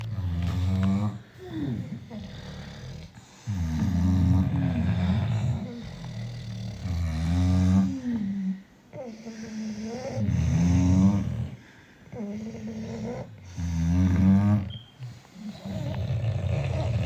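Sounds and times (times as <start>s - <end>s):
dogs snoring: 0.0s - 17.0s.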